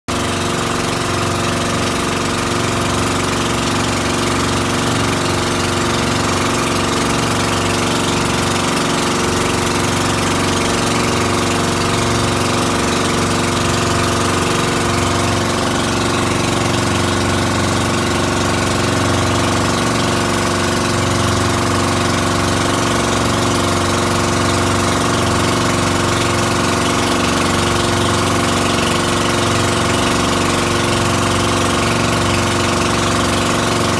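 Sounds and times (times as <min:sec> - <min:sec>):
boat engine drone: 0:00.1 - 0:33.9.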